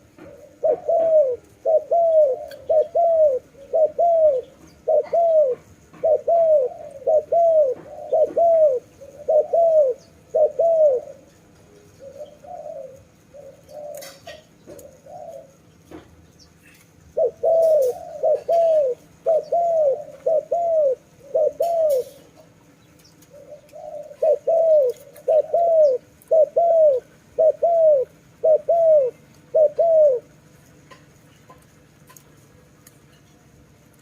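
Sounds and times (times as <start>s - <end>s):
dove cooing: 0.0s - 15.7s, 16.6s - 22.6s, 23.2s - 31.8s.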